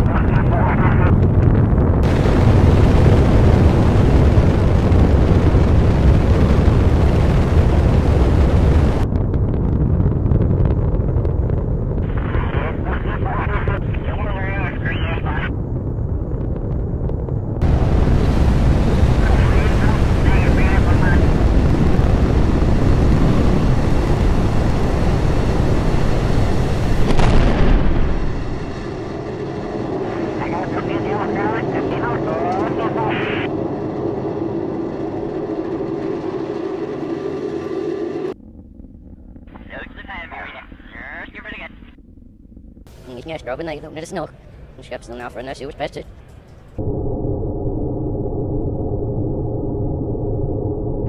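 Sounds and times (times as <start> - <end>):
rocket engines rumbling: 0.0 - 51.0.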